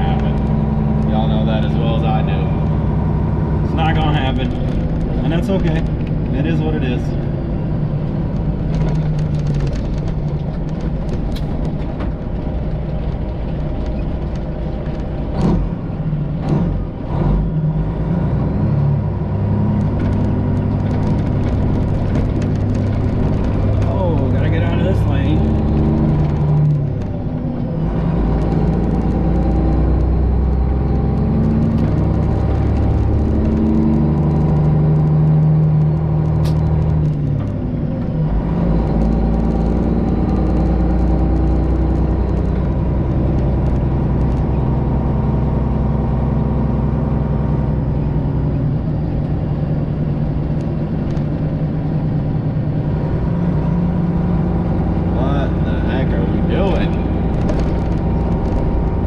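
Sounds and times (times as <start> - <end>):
truck engine running under load: 0.0 - 59.0.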